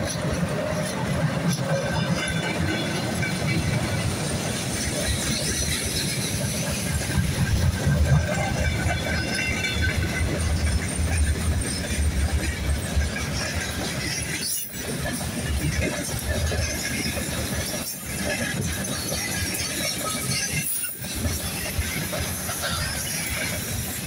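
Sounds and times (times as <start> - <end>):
clatter over rail joints: 0.0 - 24.0
freight train wheels rumbling: 0.0 - 24.0.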